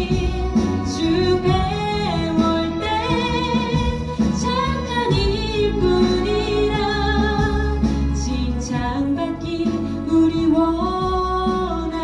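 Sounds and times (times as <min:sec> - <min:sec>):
instrumental accompaniment: 0:00.0 - 0:12.0
woman singing into a microphone: 0:00.0 - 0:12.0.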